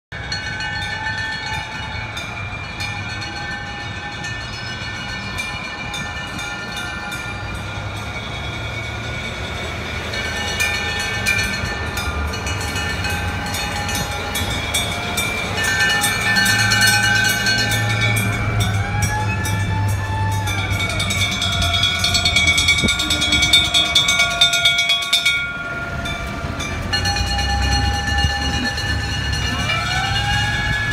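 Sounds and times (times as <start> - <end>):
bells clanging: 0.1 - 30.9
fire engine sirens: 0.1 - 30.9.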